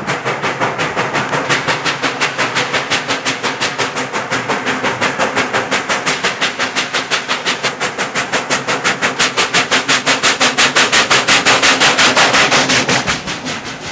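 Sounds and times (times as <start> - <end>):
steam locomotive exhaust chuffs: 0.0 - 13.9.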